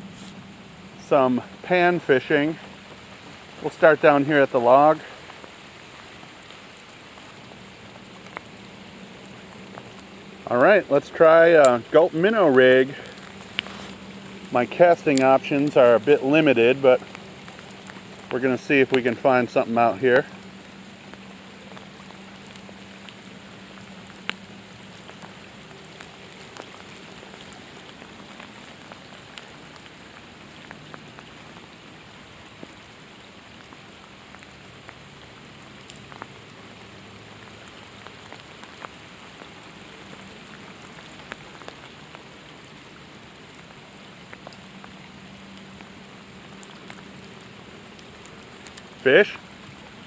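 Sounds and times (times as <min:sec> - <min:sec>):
steady rain falling: 0:00.0 - 0:50.0
single raindrop ticks: 0:05.2 - 0:10.4, 0:11.6 - 0:16.4, 0:17.0 - 0:19.6, 0:20.2 - 0:32.9, 0:33.5 - 0:50.0.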